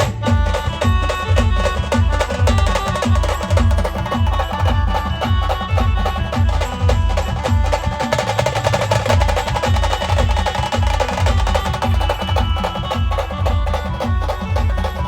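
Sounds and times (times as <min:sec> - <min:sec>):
fast dense drumming: 0:00.0 - 0:15.0
heavy bass drum beat: 0:00.0 - 0:15.0.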